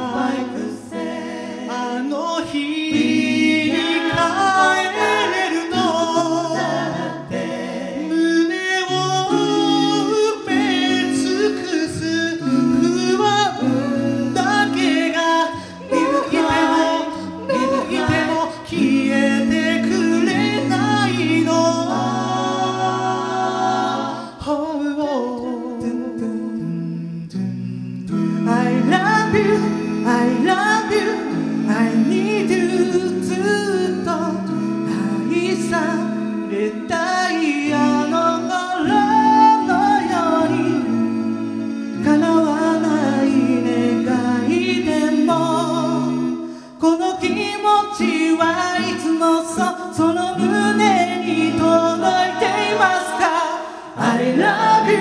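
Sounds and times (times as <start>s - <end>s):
men singing lead: 0.0s - 26.7s, 28.1s - 55.0s
sung backing harmonies: 0.0s - 55.0s.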